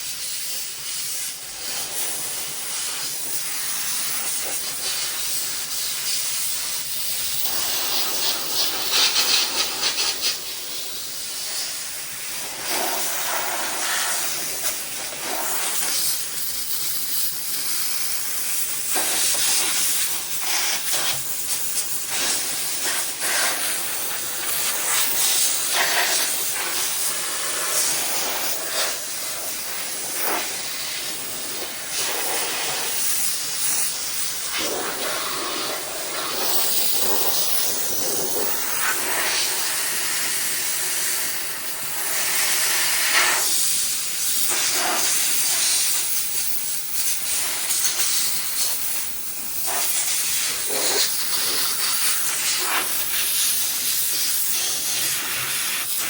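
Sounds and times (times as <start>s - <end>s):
steam cleaner hissing: 0.0s - 56.0s.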